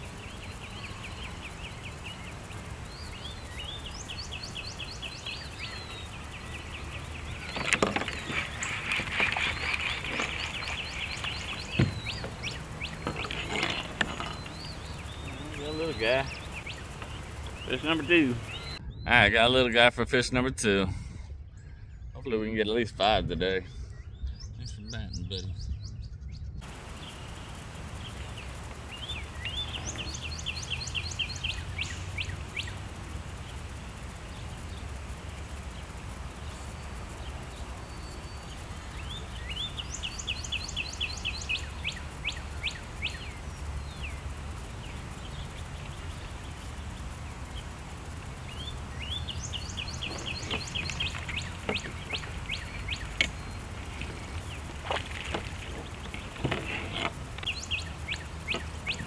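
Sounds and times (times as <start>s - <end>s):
songbird chirping: 0.0s - 20.8s, 21.4s - 59.0s
steady low rumble: 0.0s - 59.0s.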